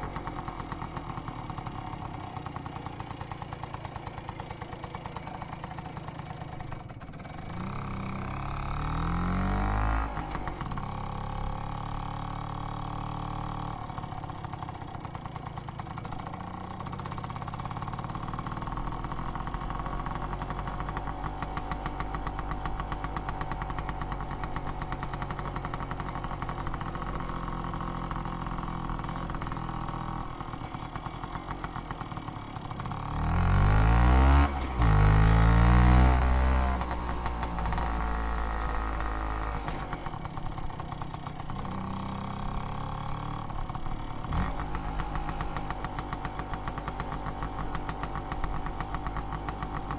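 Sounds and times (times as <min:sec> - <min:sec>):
scooter engine idling and revving: 0:00.0 - 0:49.9.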